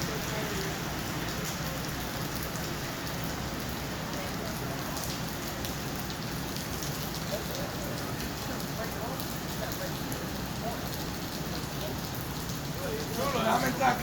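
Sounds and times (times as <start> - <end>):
heavy rain pattering: 0.0 - 14.0.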